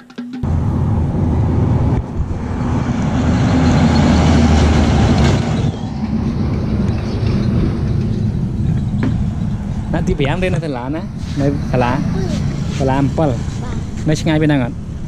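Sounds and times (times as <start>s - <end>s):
heavy truck driving past: 0.4s - 15.0s.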